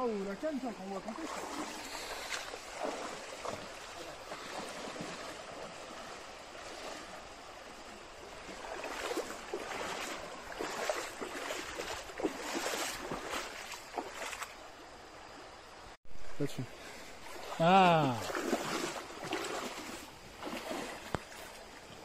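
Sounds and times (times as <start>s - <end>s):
water splashing: 0.0s - 15.4s, 16.6s - 22.0s
stream running water: 0.0s - 22.0s
footsteps wading through water: 0.4s - 15.4s, 16.7s - 22.0s.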